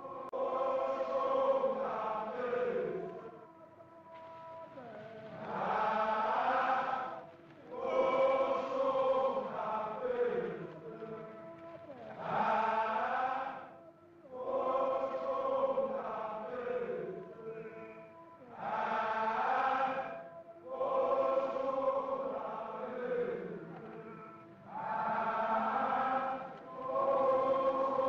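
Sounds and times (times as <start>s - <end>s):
voices chanting together: 0.0s - 28.0s.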